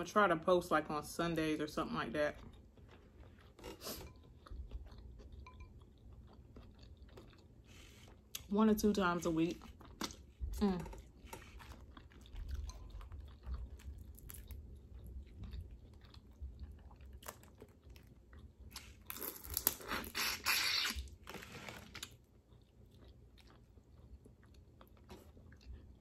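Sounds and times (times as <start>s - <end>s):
person chewing and biting: 2.4s - 8.5s, 9.6s - 26.0s.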